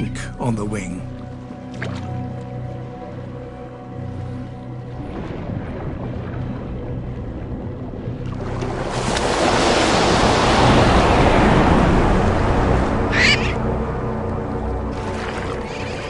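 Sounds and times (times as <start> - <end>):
sea water rushing: 0.0 - 16.0
soft background music: 0.0 - 16.0.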